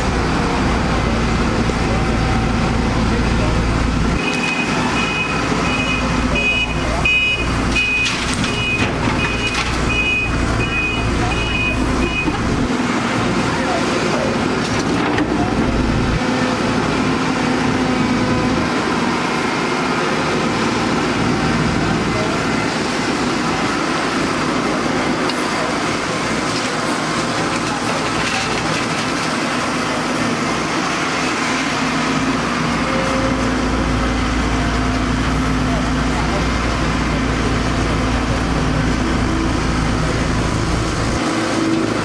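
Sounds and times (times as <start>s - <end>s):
excavator diesel engine running: 0.0s - 42.0s.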